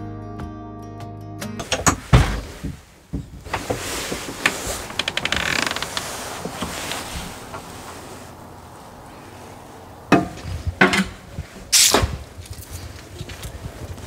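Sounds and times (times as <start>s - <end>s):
outdoor noise: 1.6s - 14.0s.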